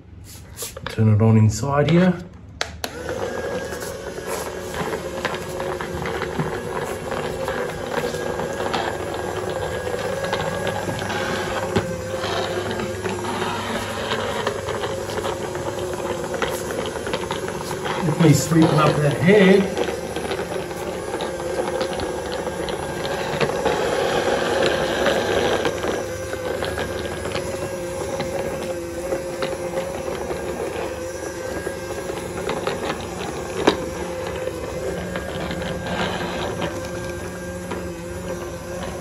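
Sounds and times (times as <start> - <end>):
robot vacuum motor hum: 2.8 - 39.0.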